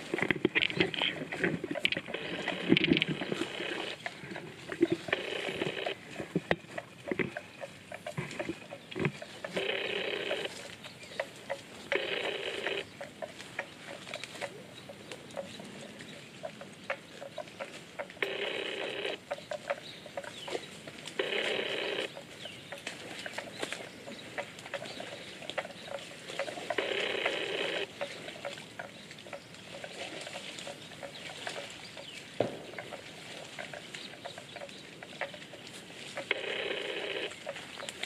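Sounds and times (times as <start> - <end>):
animal calls: 0.0 - 38.0
buffalo tearing and chewing grass: 0.0 - 38.0.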